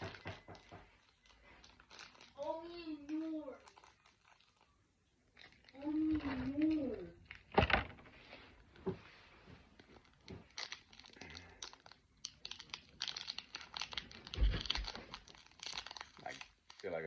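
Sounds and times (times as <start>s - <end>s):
foil wrapper crinkling and tearing: 0.0s - 7.5s, 9.7s - 17.0s.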